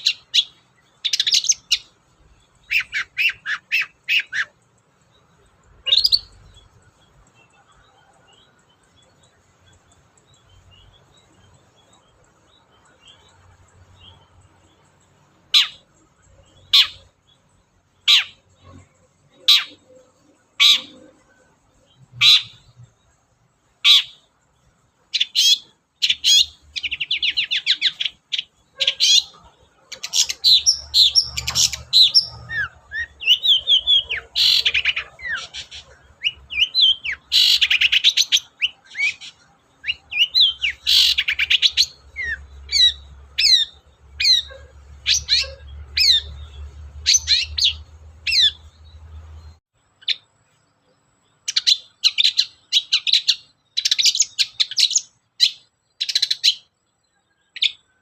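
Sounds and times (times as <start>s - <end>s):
shrike singing fast chirps: 0.0s - 50.4s, 51.3s - 58.0s.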